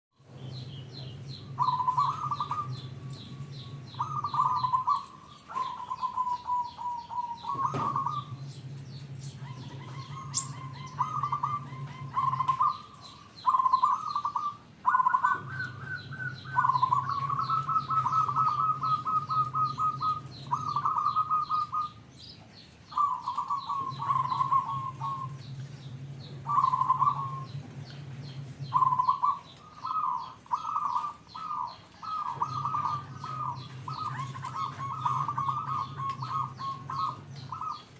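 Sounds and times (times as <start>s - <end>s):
small birds chirping: 0.1s - 37.9s
dove cooing: 0.3s - 22.2s, 22.8s - 37.9s.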